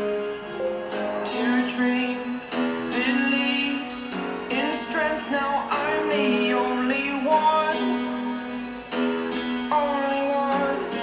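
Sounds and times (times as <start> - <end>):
plucked guitar-like music: 0.0 - 11.0.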